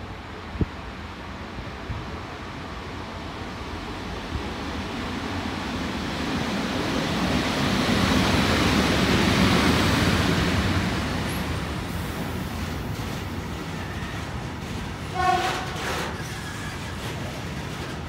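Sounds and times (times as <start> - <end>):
freight train wheels on rail: 0.1 - 18.0.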